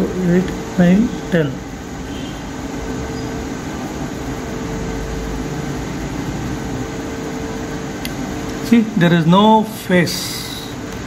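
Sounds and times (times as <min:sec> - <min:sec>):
faint fan hum: 0:00.0 - 0:11.0.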